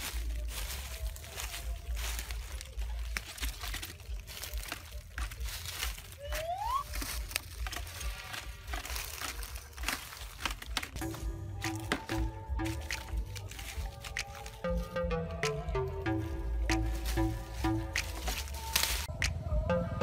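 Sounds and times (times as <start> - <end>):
leafy branch rustling in bucket: 0.0 - 14.7, 16.9 - 19.1.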